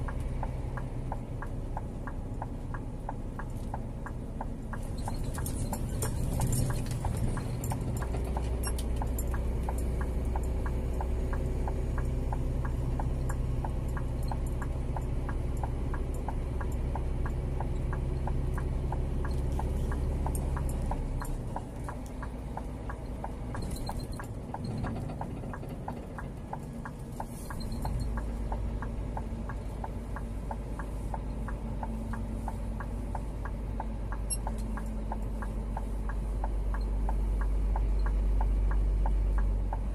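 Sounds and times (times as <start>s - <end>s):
regular ticking: 0.0s - 39.9s
truck diesel engine running: 0.0s - 39.9s.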